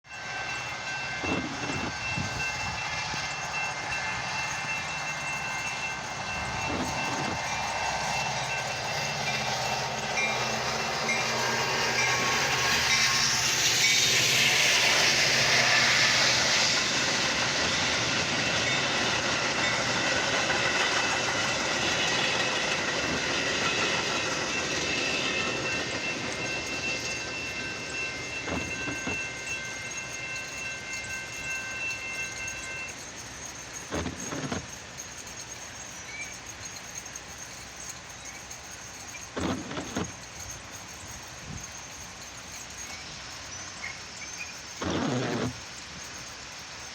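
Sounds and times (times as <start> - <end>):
train rumbling past: 0.0 - 46.9
thin high tones: 0.1 - 46.9
wheels clacking over rail joints: 0.1 - 46.9.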